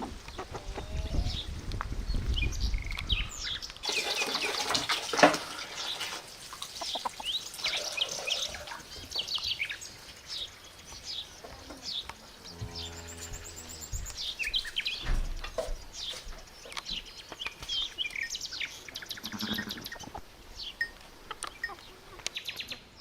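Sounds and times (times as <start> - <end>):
many birds chirping: 0.0 - 23.0.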